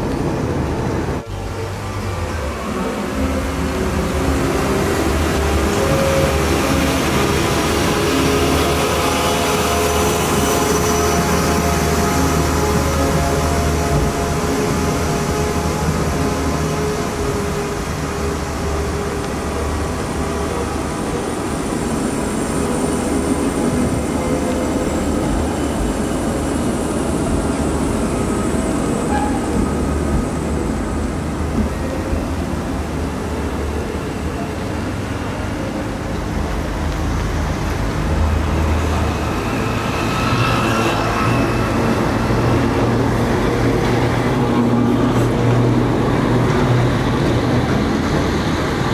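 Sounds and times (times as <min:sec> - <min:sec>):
low rumble of street traffic: 0:00.0 - 0:48.9
thin high tone from tram: 0:00.0 - 0:48.9
tram passing on rails: 0:00.0 - 0:48.9.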